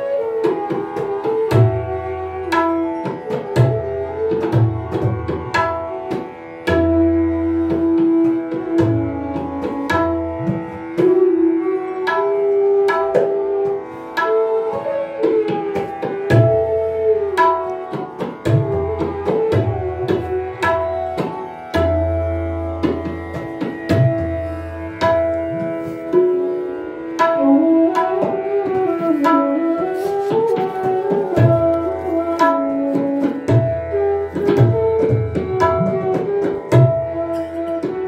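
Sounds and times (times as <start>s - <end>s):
bamboo flute melody: 0.0s - 38.0s
tabla strokes: 0.0s - 38.0s.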